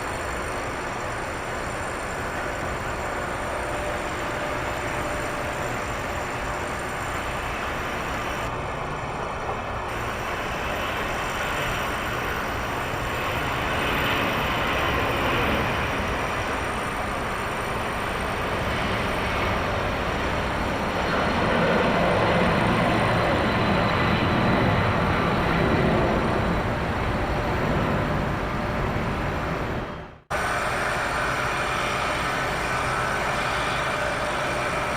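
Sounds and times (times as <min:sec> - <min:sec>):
jet airliner engines rushing: 0:00.0 - 0:34.9.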